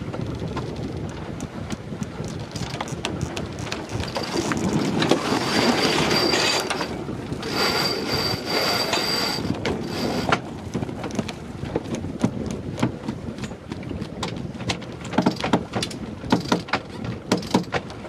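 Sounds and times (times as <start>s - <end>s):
rush of wind and water: 0.0s - 18.0s.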